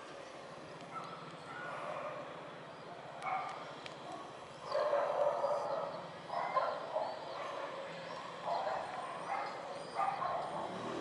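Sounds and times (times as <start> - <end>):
dog barking: 0.9 - 2.3, 3.2 - 10.9.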